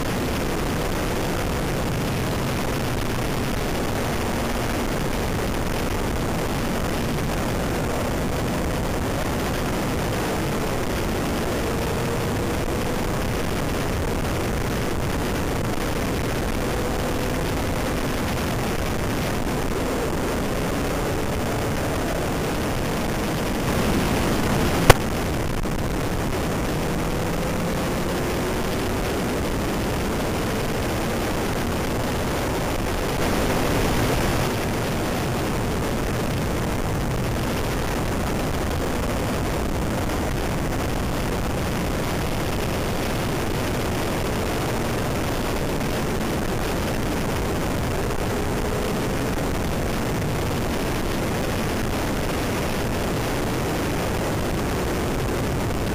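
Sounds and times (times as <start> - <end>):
motorcycle engine: 0.0 - 36.6, 41.6 - 50.6
wind rush over microphone: 0.0 - 55.9.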